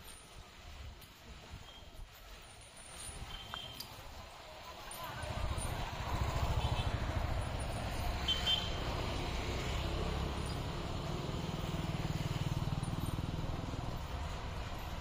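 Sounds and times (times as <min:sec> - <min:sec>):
engine rumbling: 0:02.3 - 0:15.0.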